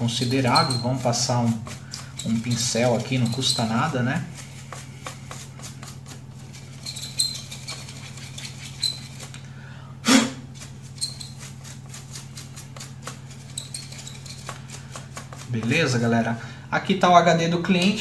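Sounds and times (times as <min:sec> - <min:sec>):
brush scrubbing fan: 0:00.0 - 0:09.7, 0:10.4 - 0:16.5
steady low hum: 0:00.0 - 0:18.0.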